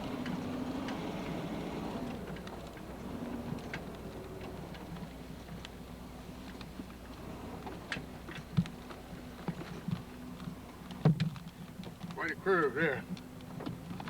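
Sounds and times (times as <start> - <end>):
car engine humming: 0.0 - 14.0
body ticks and rattles: 2.2 - 14.0.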